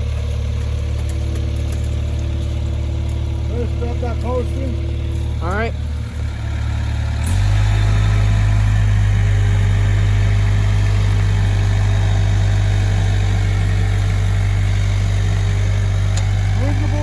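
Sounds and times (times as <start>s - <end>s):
skid steer engine droning: 0.0s - 17.0s.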